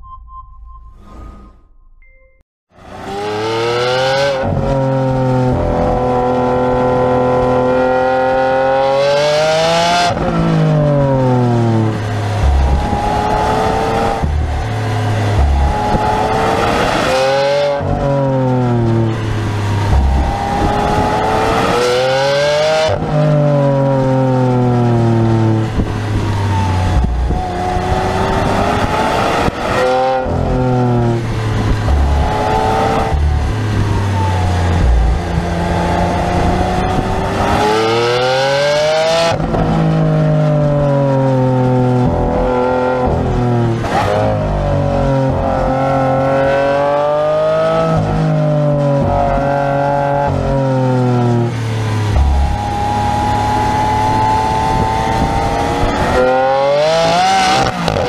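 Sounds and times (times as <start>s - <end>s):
car engine revving through gears: 2.8s - 58.0s.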